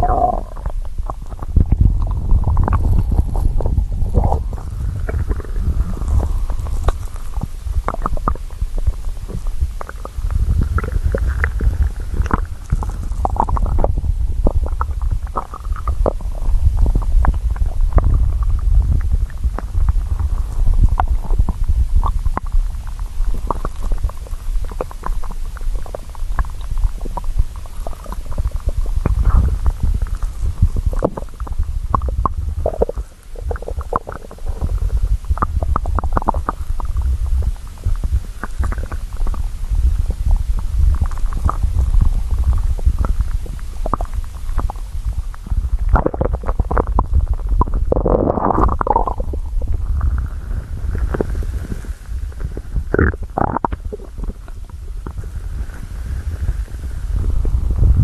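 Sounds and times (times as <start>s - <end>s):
stomach growling and gurgling: 0.0s - 58.0s.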